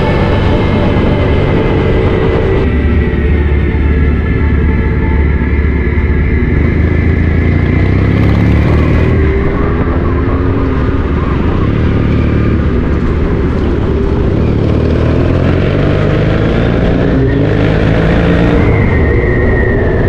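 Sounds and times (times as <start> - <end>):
high whine falling in pitch: 0.0 - 20.0
motorcycle engine rumble: 0.0 - 20.0.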